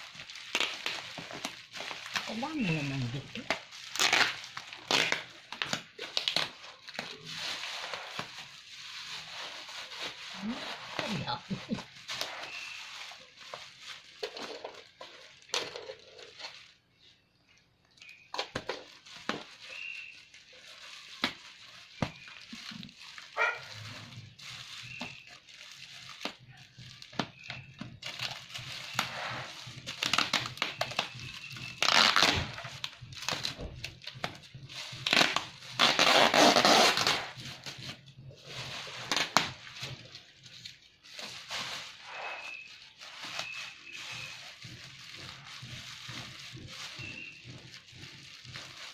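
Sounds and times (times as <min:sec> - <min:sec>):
plastic wrapping crinkling: 0:00.0 - 0:48.9.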